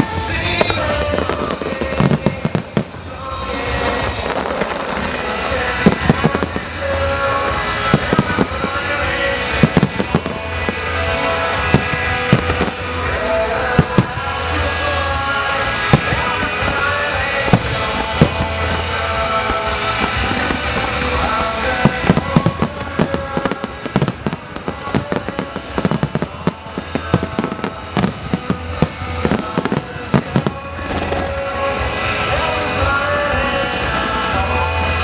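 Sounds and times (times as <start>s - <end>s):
fireworks bursting: 0.0s - 35.0s
music: 0.0s - 35.0s.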